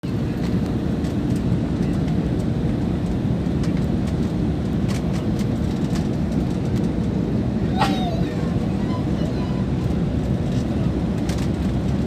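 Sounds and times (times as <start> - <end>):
aircraft cabin engine drone: 0.1 - 12.0.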